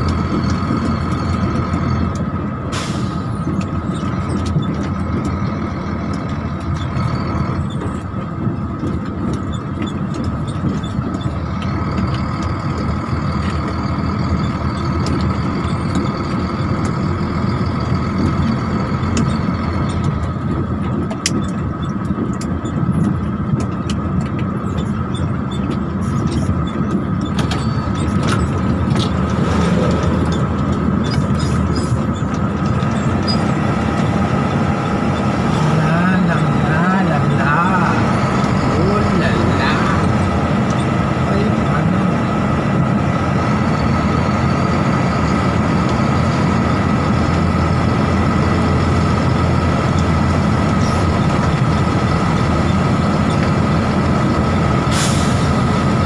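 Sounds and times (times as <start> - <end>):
truck engine and road noise: 0.0 - 56.0.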